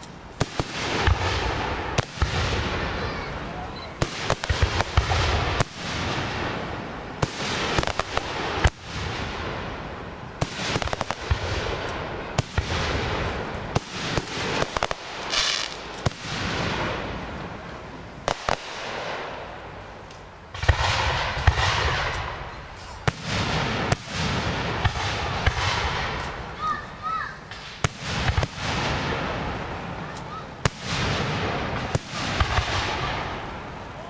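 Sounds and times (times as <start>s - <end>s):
fireworks bursting with sharp bangs: 0.0s - 34.0s
fireworks crackling: 0.0s - 34.0s.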